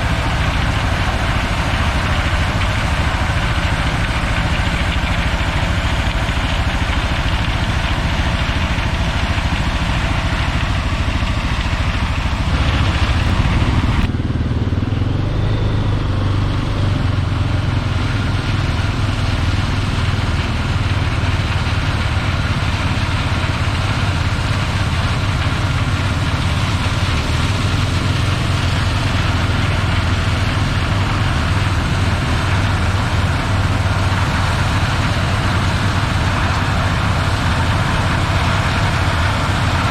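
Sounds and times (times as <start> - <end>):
farm machinery engines humming: 0.0 - 39.9.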